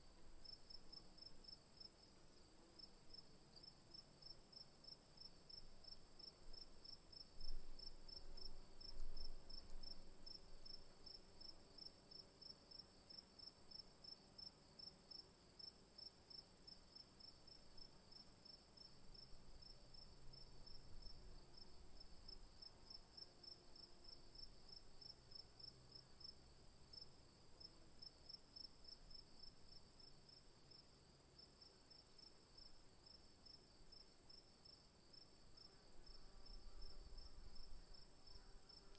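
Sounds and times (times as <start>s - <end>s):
cricket chirping in a pulse: 2.8s - 38.9s.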